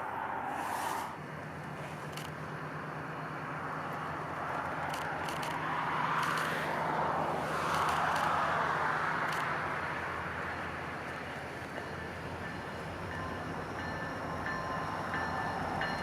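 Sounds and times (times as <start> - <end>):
vehicles passing by: 0.0 - 13.7.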